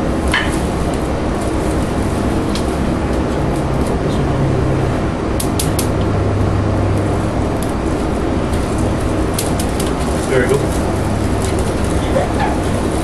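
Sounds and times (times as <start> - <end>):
steady loud rumbling: 0.0 - 13.0.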